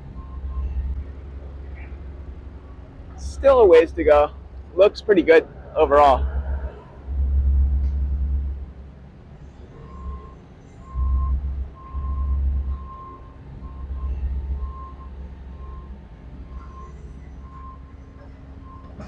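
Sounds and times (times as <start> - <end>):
vehicle backup alarm beeping: 0.0 - 6.4, 9.4 - 19.0
low rumble: 0.0 - 19.0.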